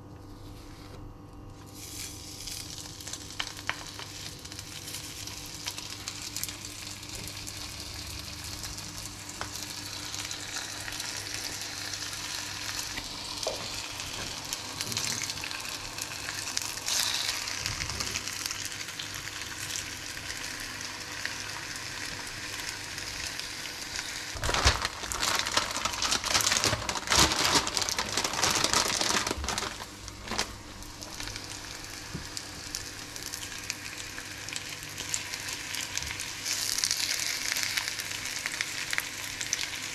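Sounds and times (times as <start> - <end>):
meat sizzling in frying pan: 1.7 - 26.8, 27.7 - 39.9.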